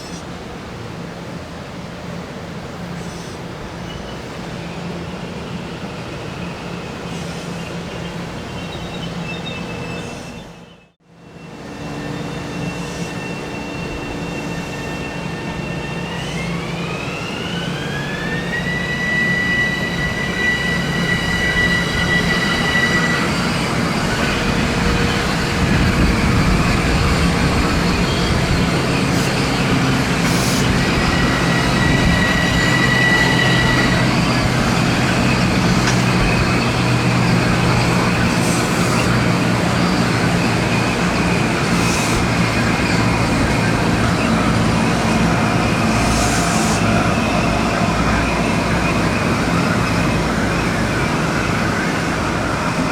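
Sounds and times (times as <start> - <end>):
train rumble: 0.0 - 52.9.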